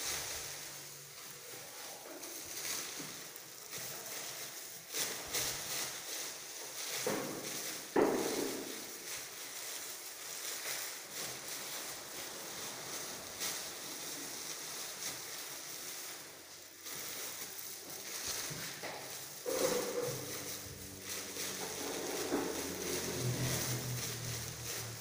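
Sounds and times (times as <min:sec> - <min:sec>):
plastic bags rustling and crinkling: 0:00.0 - 0:25.0.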